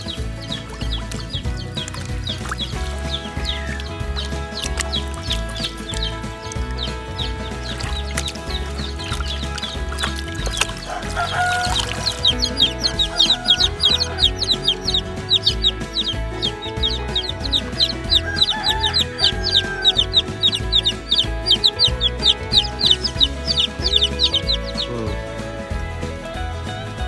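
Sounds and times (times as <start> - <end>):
background music: 0.0 - 27.0
chickens clucking: 0.0 - 27.0.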